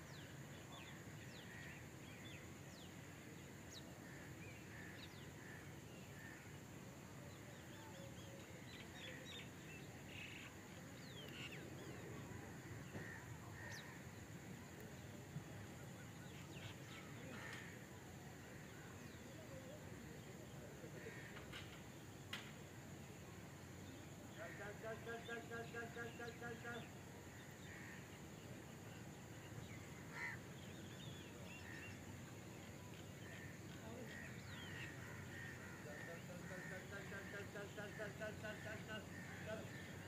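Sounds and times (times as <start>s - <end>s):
steady high hiss: 0.0s - 40.0s.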